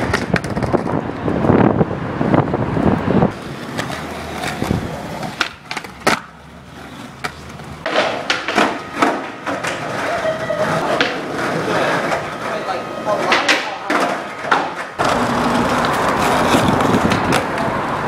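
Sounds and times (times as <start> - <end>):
skateboard deck clacking on ground: 0.0 - 1.0, 3.6 - 6.4, 7.0 - 17.7
skateboard wheels rolling on pavement: 0.0 - 18.0.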